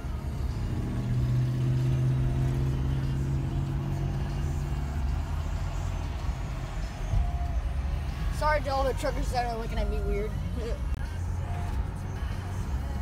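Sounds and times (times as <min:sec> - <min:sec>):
road traffic drone inside a car: 0:00.0 - 0:13.0.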